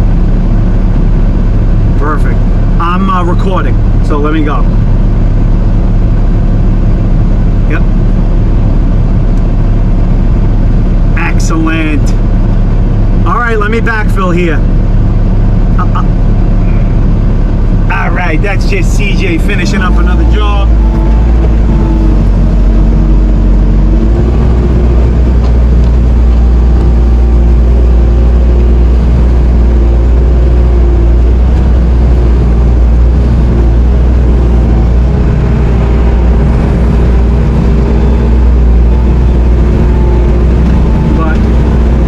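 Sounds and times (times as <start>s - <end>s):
diesel loader engine running: 0.0s - 42.0s.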